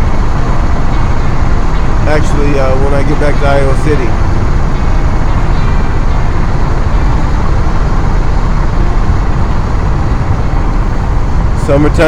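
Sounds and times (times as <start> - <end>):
road noise: 0.0 - 12.0
van engine rumble: 0.0 - 12.0.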